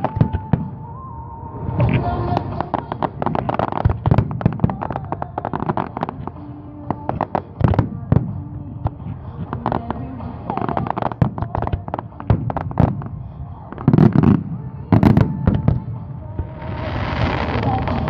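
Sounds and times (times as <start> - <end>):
fireworks bangs and crackles: 0.0 - 1.0, 1.7 - 18.0.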